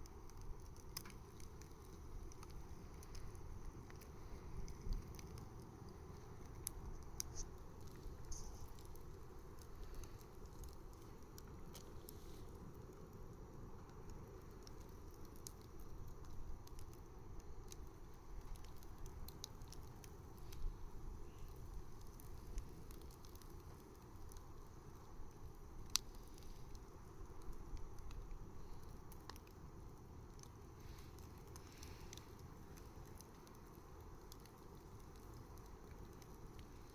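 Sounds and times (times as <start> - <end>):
bonfire crackling and popping: 0.0 - 36.9.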